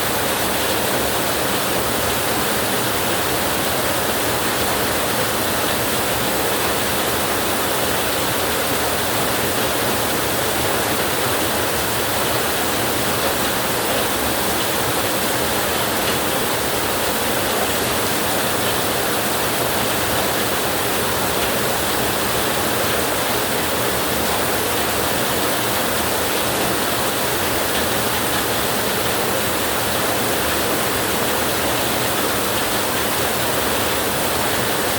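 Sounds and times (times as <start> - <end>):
heavy rain on a tin roof: 0.0 - 34.9.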